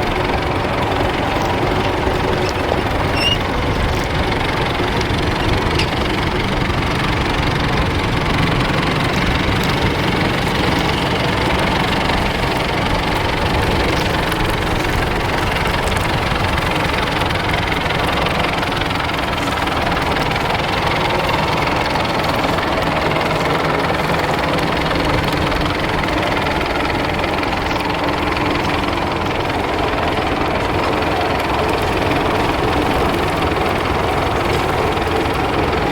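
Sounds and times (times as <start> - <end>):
tractor engine chugging: 0.0 - 35.9.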